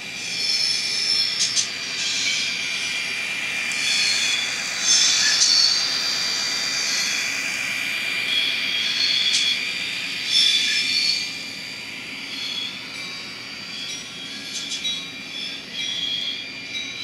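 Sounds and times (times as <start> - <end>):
thin high-pitched engine whine: 0.0 - 17.0.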